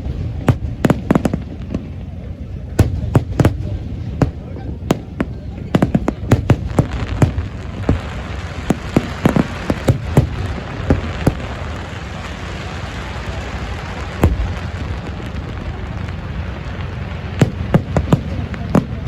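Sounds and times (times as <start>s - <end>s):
fireworks bangs: 0.0s - 19.0s
fireworks hiss: 0.0s - 19.0s.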